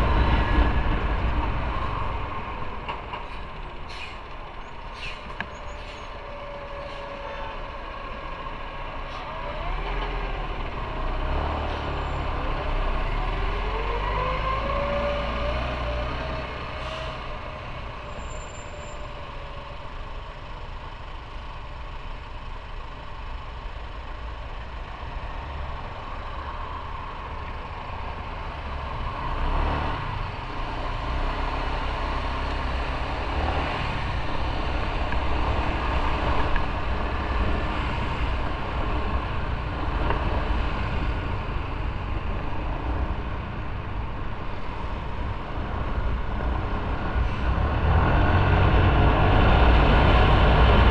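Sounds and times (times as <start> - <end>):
motorcycle engine in traffic: 0.0 - 50.9.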